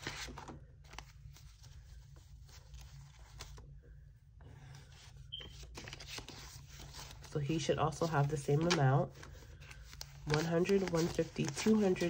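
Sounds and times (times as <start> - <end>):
paper banknotes rustling: 0.0 - 3.7, 4.6 - 12.0
plastic envelope handling: 0.0 - 3.8, 4.6 - 12.0.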